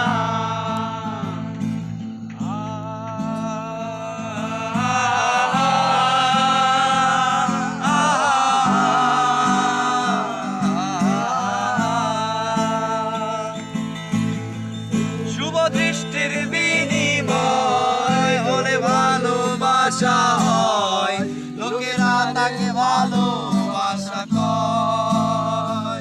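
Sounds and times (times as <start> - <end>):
person singing long notes: 0.0 - 1.7, 2.3 - 26.0
guitar accompaniment: 0.0 - 26.0.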